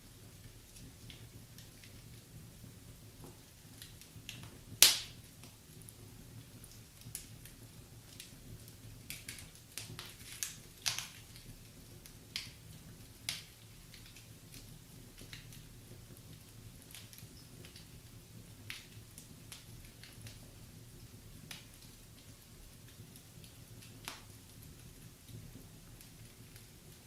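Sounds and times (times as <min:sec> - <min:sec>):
low rumble of flames: 0:00.0 - 0:27.0
logs crackling and popping: 0:00.2 - 0:27.0.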